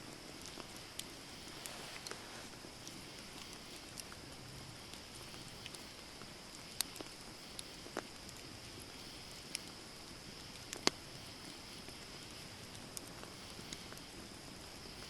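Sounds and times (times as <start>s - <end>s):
campfire crackling and popping: 0.0s - 15.0s
soft fire hiss: 0.0s - 15.0s.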